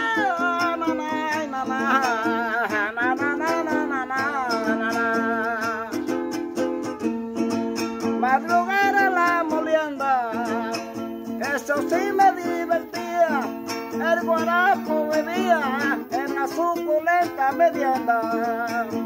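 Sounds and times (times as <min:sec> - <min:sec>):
man singing wordless lines: 0:00.0 - 0:06.4, 0:08.0 - 0:19.0
small guitar strummed: 0:00.0 - 0:19.0.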